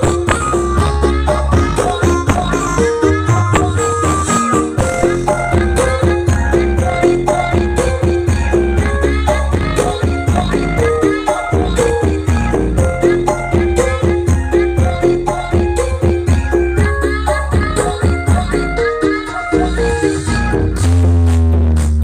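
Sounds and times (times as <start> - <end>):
loud music through sound system: 0.0 - 22.0.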